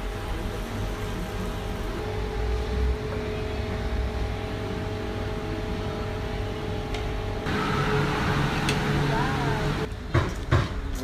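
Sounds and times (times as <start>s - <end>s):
low mechanical rumble and hum: 0.0s - 10.0s.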